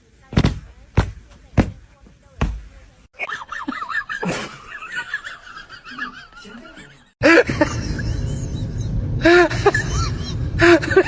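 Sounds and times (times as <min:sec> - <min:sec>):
background noise: 0:00.0 - 0:09.8.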